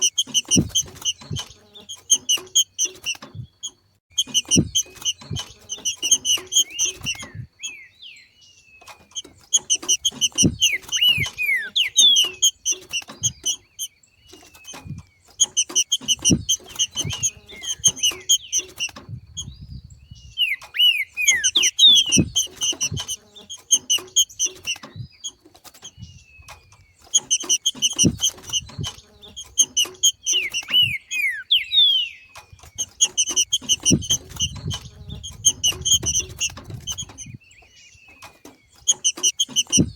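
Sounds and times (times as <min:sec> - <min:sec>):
bird chattering and whistling: 0:00.0 - 0:39.9.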